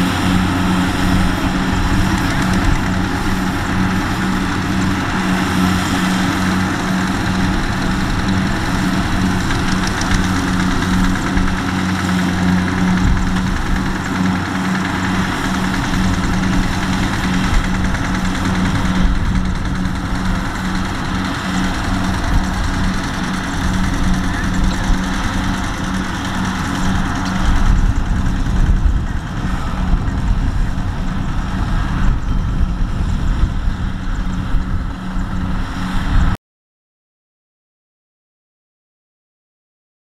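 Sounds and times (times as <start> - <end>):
combine harvester engine running: 0.0 - 36.4.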